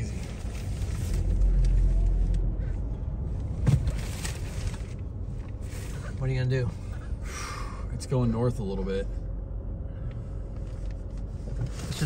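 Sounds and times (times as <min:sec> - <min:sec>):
vehicle rumbling on dirt road: 0:00.0 - 0:12.0.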